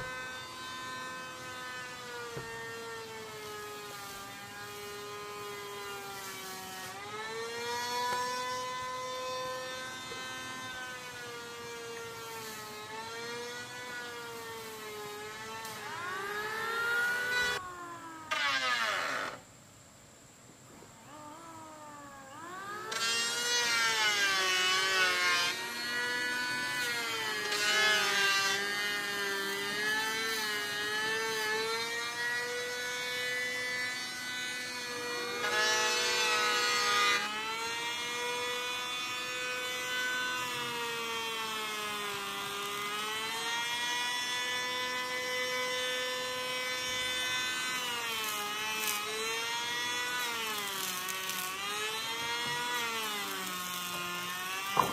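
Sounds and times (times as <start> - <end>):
tool cutting wood: 0.0 - 17.6, 22.7 - 54.9
power tool motor whine: 0.0 - 19.4, 22.5 - 54.9.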